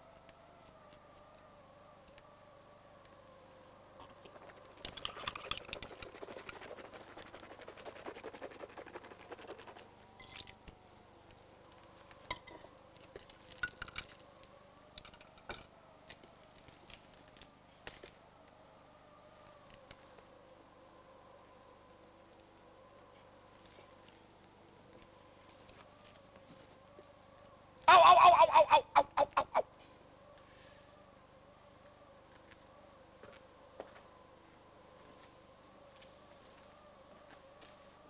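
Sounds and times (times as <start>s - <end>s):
faint wavering hum: 0.0s - 16.6s, 17.5s - 38.0s.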